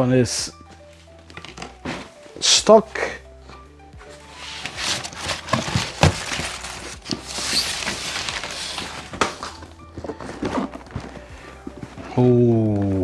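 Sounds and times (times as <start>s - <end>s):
packaging crinkling: 0.6s - 2.5s, 3.4s - 13.0s.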